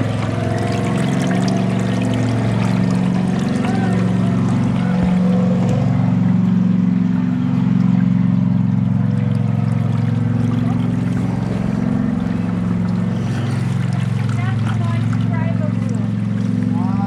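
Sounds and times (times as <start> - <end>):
engine running low hum: 0.0 - 17.0.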